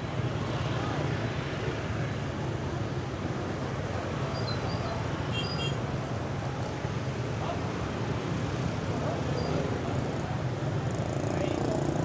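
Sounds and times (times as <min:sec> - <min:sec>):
motorbike and scooter traffic: 0:00.0 - 0:12.0.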